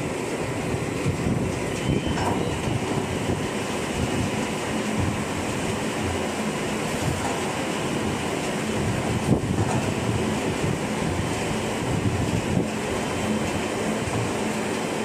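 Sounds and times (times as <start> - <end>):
machine rumble and rattle: 0.0 - 15.0.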